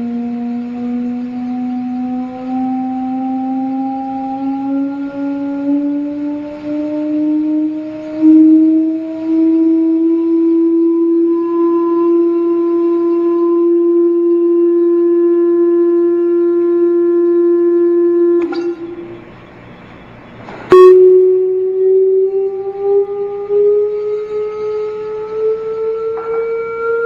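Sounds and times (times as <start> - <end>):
buzzy rising test tone: 0.0 - 27.0.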